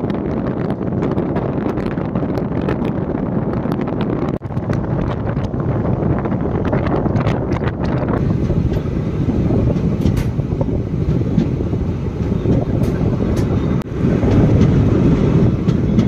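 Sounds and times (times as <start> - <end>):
rushing air: 0.0 - 16.0
train wheels rumbling on rail: 0.0 - 16.0.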